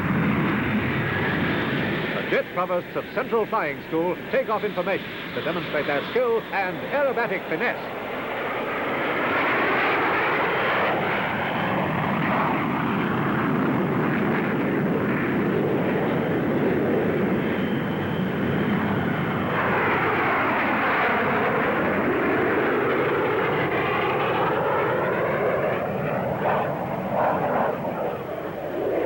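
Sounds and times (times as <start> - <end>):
jet engines rushing: 0.0 - 29.0.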